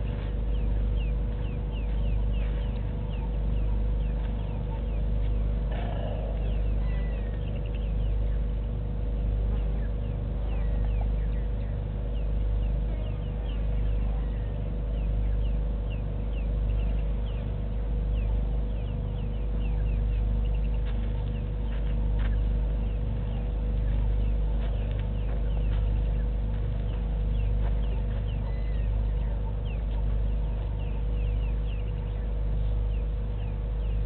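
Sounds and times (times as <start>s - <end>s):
deep pulsing rumble: 0.0s - 34.0s
faint hum: 0.0s - 34.0s.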